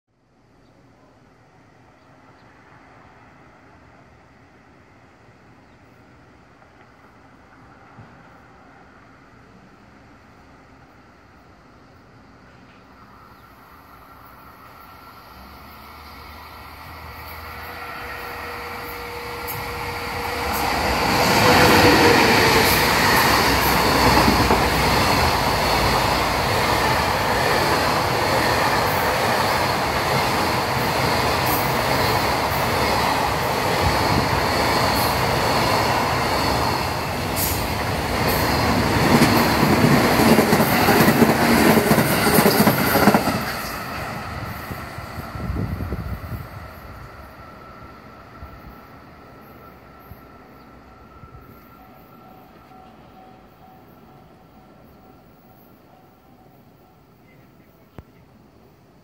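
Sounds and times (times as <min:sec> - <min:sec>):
freight train passing: 0:00.8 - 0:59.0.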